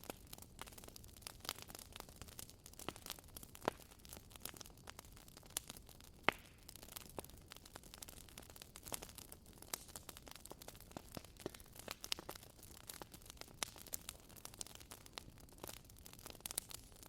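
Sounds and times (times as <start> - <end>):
fire pops and snaps: 0.0 - 17.0.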